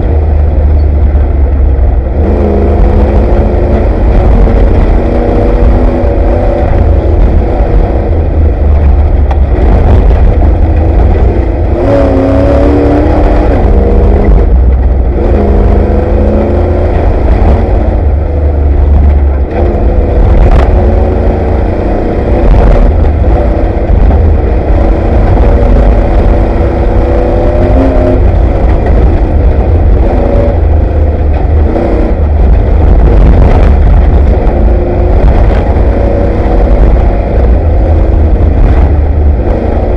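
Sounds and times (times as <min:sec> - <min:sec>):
race vehicle engine revving: 0:00.0 - 0:39.9.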